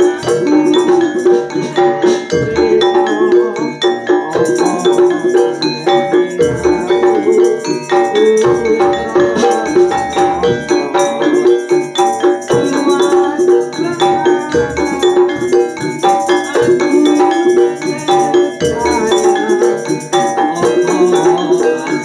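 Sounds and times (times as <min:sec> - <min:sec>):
gamelan ensemble playing: 0:00.0 - 0:22.0.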